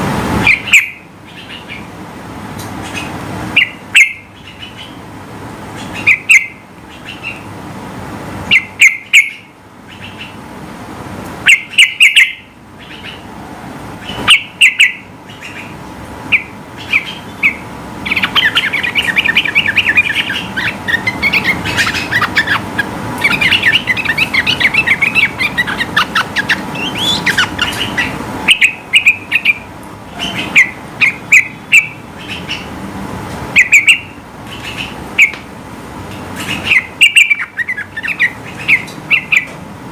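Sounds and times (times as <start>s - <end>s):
bulbul singing: 0.4s - 2.0s, 2.6s - 5.1s, 5.7s - 7.5s, 8.4s - 10.4s, 11.4s - 13.3s, 14.0s - 32.8s, 33.5s - 35.5s, 36.4s - 39.6s.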